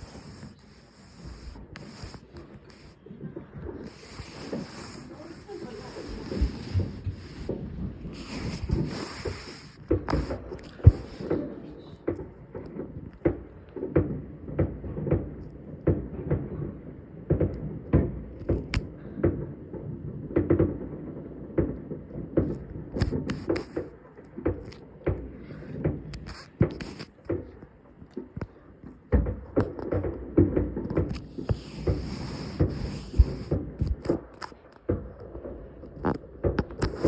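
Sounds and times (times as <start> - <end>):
fireworks booming and cracking: 0.0 - 37.0.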